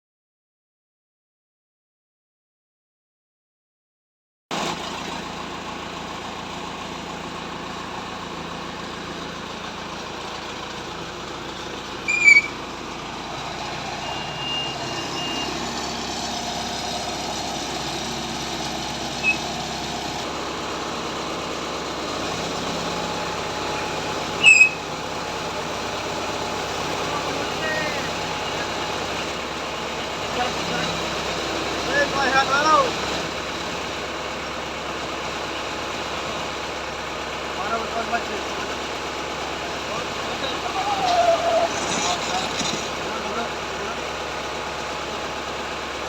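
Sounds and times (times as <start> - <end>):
heavy machinery engine running: 4.5 - 46.0.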